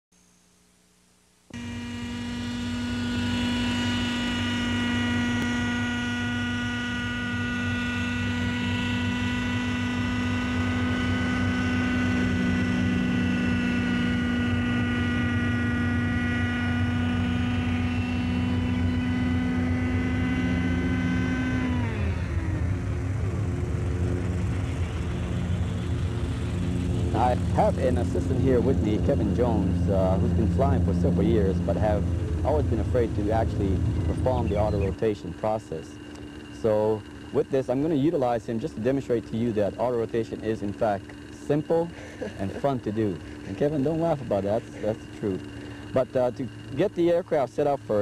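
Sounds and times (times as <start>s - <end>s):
model helicopter engine running: 1.5s - 48.0s
rotor pulsing: 1.5s - 48.0s.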